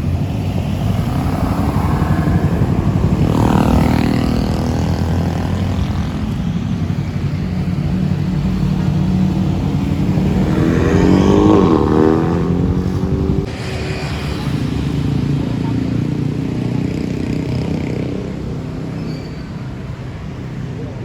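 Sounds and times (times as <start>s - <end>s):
vehicle engines running: 0.0s - 21.0s
vehicle passing by: 0.0s - 21.0s.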